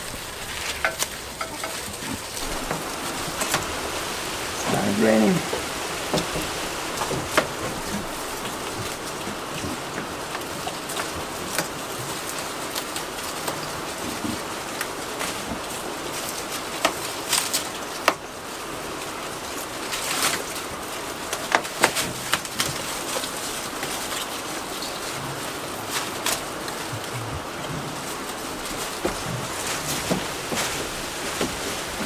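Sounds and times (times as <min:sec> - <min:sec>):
goats chewing leafy branches: 0:00.0 - 0:32.0
rain hissing: 0:00.0 - 0:32.0.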